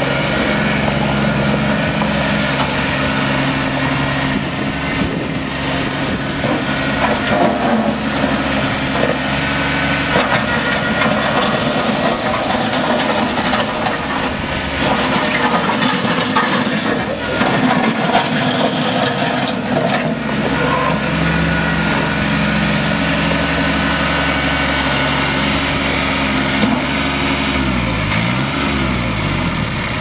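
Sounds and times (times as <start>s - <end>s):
tyres rolling over gravel: 0.0s - 28.0s
tractor diesel engine running: 0.0s - 30.0s.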